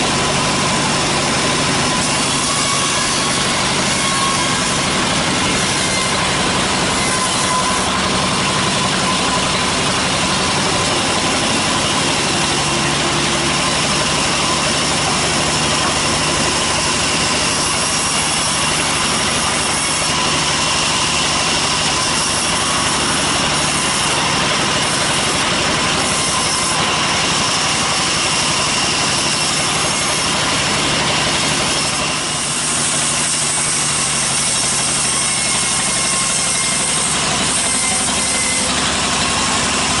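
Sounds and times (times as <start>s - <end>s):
bandsaw cutting log: 0.0s - 40.0s.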